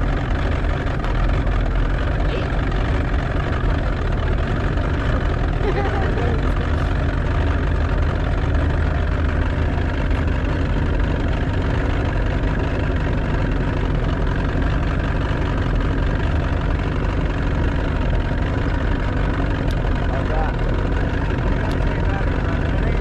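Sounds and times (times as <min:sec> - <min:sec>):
motorboat engine humming: 0:00.0 - 0:23.0.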